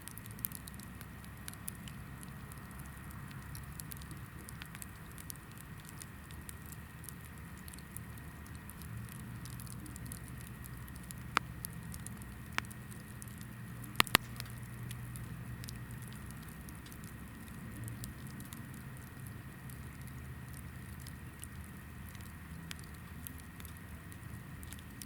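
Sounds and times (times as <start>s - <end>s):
campfire crackling: 0.0s - 25.0s
low rumble of flame: 0.0s - 25.0s
sharp pops of burning wood: 0.0s - 25.0s.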